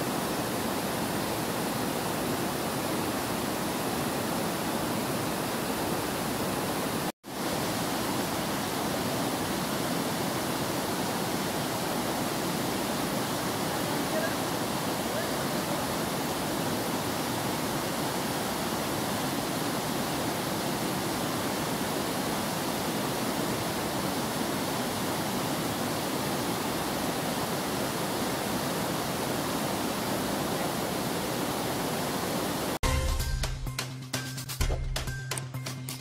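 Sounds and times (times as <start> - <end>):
river water rushing: 0.0 - 32.8.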